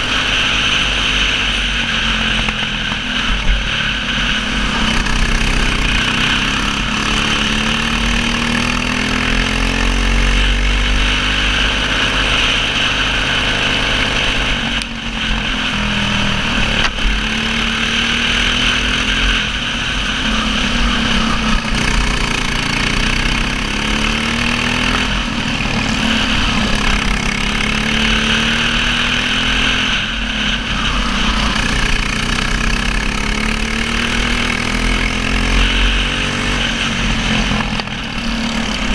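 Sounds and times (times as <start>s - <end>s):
kart engine at full throttle: 0.0s - 38.9s.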